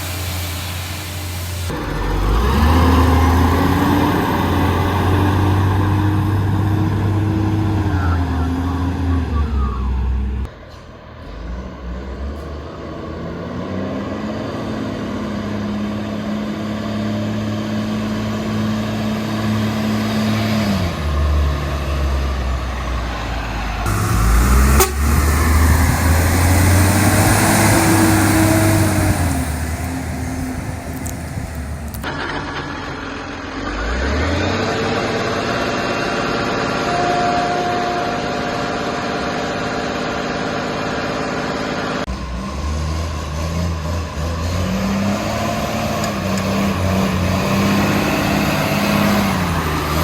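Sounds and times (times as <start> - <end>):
diesel truck engine running: 0.0 - 50.0.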